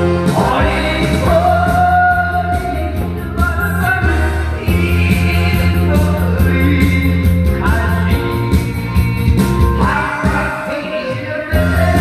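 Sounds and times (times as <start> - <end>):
amplified backing track with drums: 0.0 - 12.0
man singing into microphone: 0.0 - 12.0.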